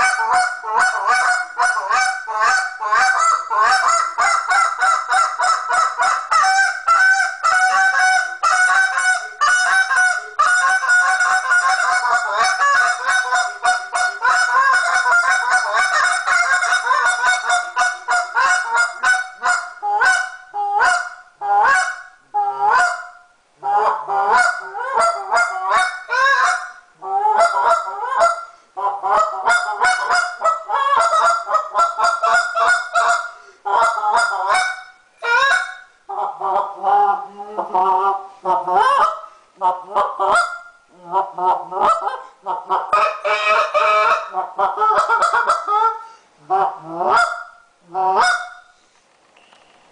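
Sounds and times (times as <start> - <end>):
goose call honks and clucks: 0.0 - 48.7.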